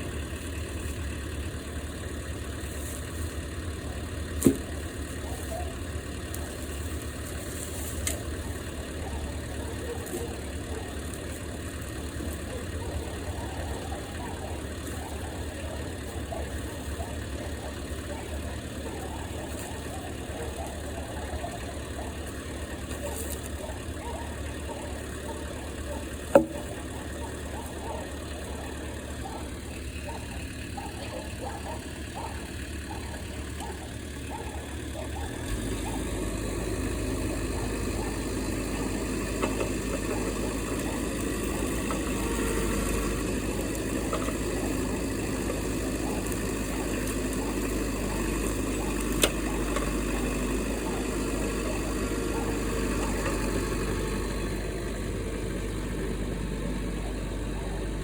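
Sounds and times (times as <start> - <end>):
engine idling rumble: 0.0 - 58.0.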